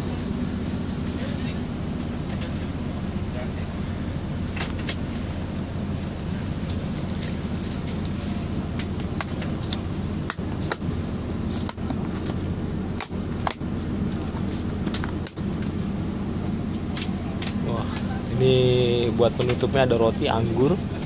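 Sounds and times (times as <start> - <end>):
car cabin engine hum: 0.0 - 21.0.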